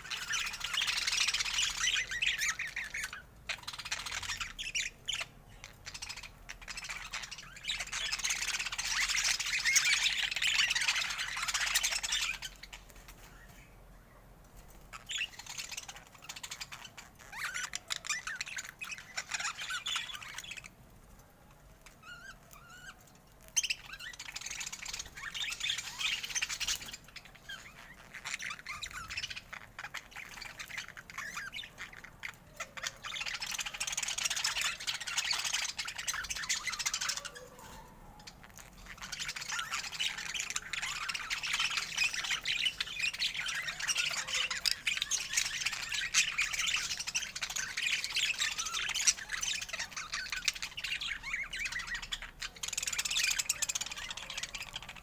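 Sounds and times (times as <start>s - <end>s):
budgerigars chattering: 0.0s - 13.6s, 14.9s - 20.8s, 21.9s - 55.0s.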